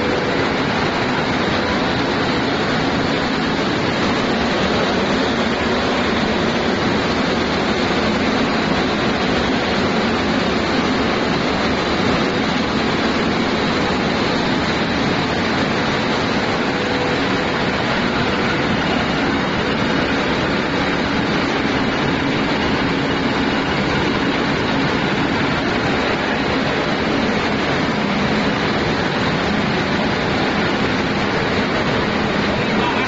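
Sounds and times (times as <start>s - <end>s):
seed cleaning machine running: 0.0s - 33.0s.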